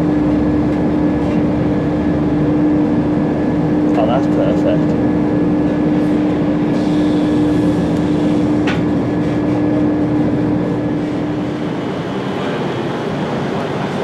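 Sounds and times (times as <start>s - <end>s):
strong hum: 0.0s - 14.0s
train rumbling: 0.0s - 14.0s.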